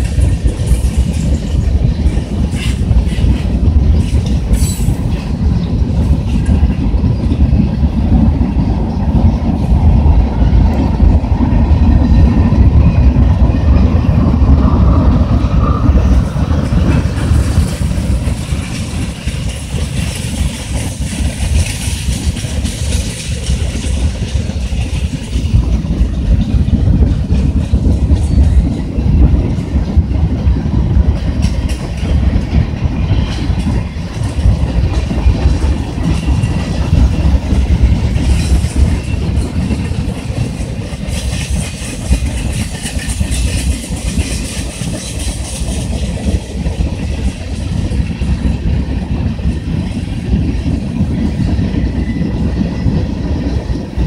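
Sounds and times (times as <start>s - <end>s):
train wheels clacking: 0.0s - 54.0s
train wheels rumbling on rail: 0.0s - 54.0s.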